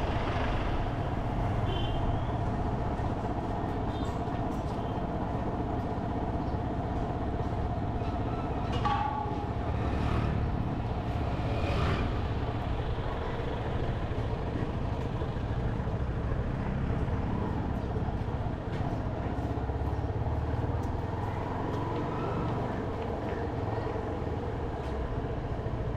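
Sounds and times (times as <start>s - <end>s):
road and traffic noise: 0.0s - 25.9s.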